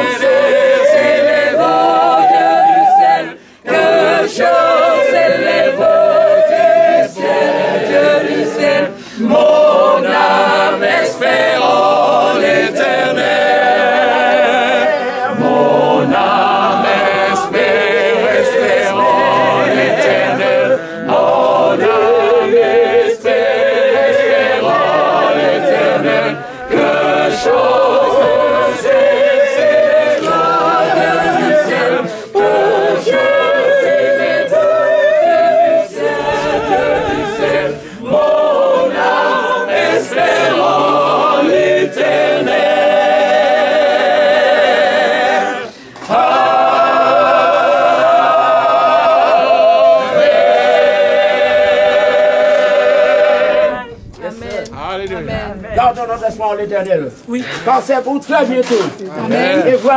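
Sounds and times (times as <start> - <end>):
group singing unaccompanied: 0.0 - 54.8, 57.4 - 59.9.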